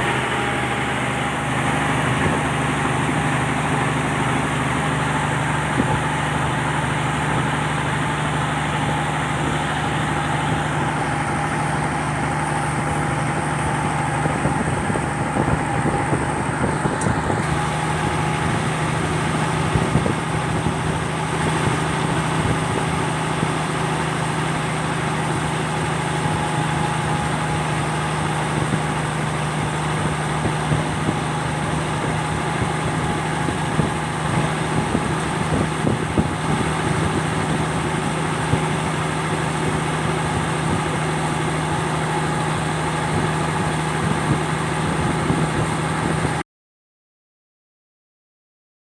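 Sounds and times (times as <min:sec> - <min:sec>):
boat engine running steadily: 0:00.0 - 0:46.4.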